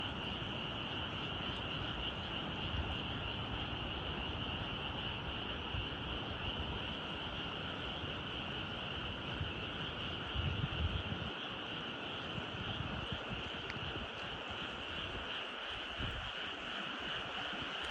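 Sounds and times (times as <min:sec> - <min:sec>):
frogs calling in chorus: 0:00.0 - 0:17.9.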